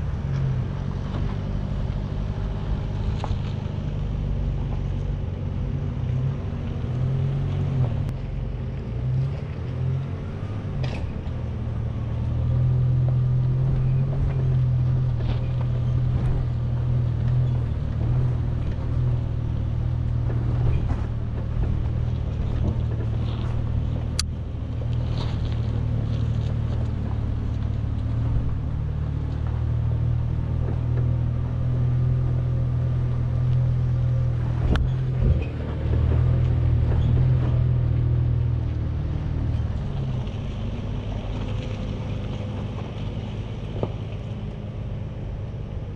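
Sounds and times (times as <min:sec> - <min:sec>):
truck engine running at low revs: 0:00.0 - 0:45.9.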